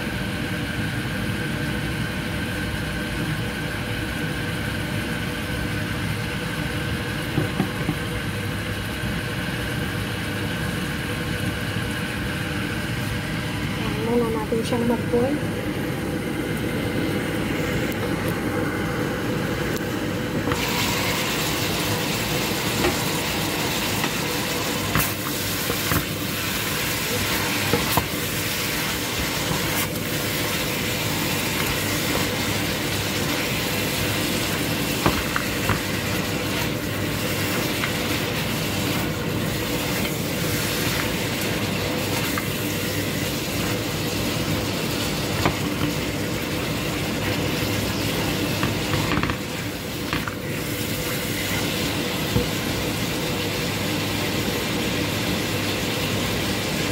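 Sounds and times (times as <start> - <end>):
food sizzling in a frying pan: 3.6 - 56.9.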